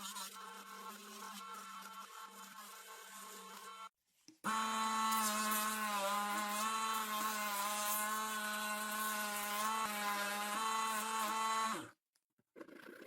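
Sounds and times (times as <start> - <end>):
electric power tool motor humming: 0.0 - 11.9.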